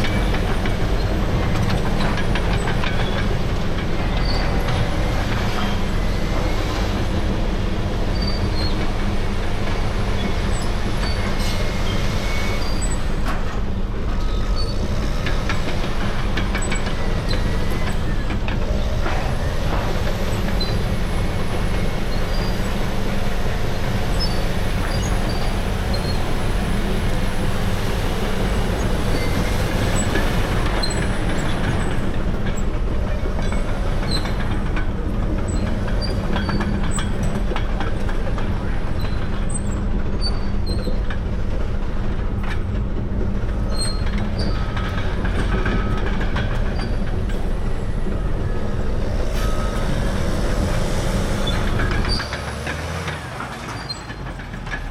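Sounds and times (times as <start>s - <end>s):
diesel engine running: 0.0s - 54.9s
steel tracks clanking and squealing: 0.0s - 54.9s.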